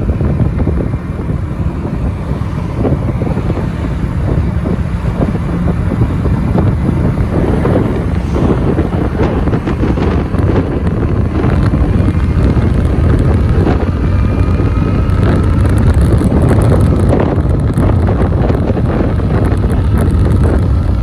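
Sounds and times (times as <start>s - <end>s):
scooter engine droning: 0.0s - 21.0s
tyres on road: 0.0s - 21.0s
wind buffeting microphone: 0.0s - 21.0s.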